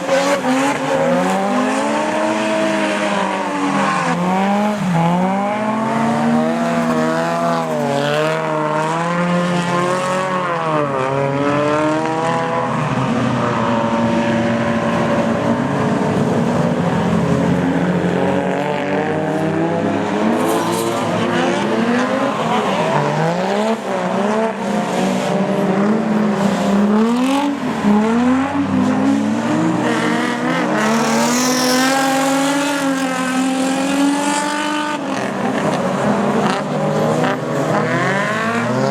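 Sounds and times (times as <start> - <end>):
car engines revving hard: 0.0 - 38.9.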